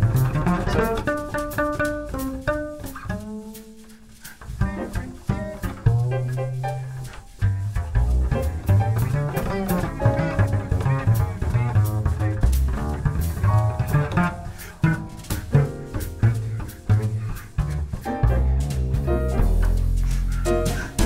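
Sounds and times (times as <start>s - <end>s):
music with bass and drums: 0.0s - 21.0s.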